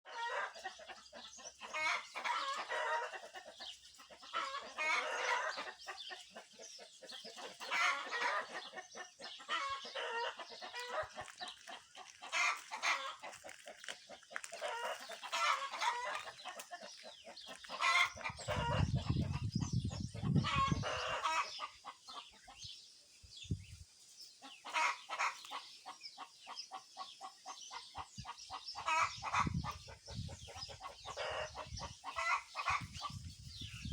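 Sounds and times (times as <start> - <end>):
hens clucking and cackling: 0.1 - 22.7, 24.4 - 33.9
wild birds singing: 0.1 - 33.9.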